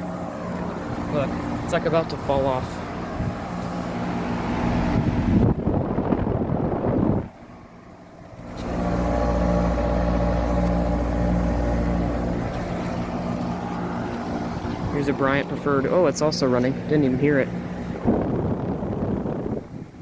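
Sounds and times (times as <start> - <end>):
air conditioner condenser running: 0.0 - 20.0.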